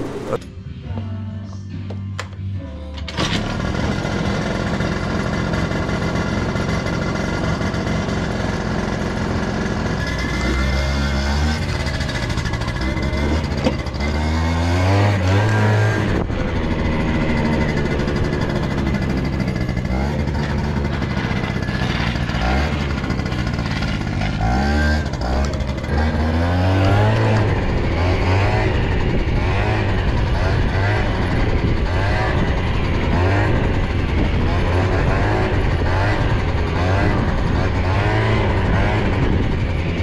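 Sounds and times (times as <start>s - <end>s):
scooter engine revving: 3.1s - 40.0s.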